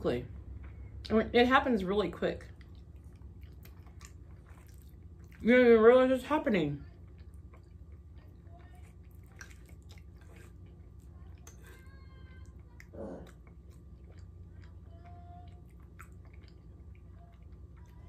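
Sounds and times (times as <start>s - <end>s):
low room hum: 0.0s - 18.0s
faint chewing: 2.3s - 18.0s.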